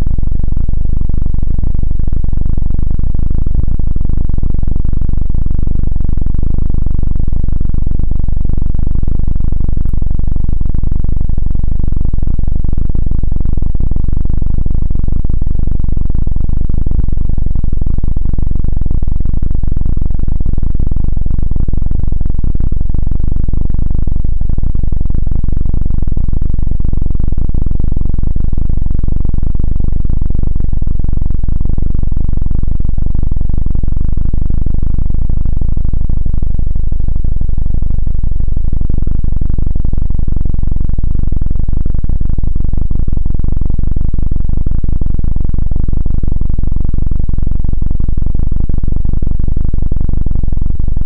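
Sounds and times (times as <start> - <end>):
distorted helicopter rotor drone: 0.0 - 51.0.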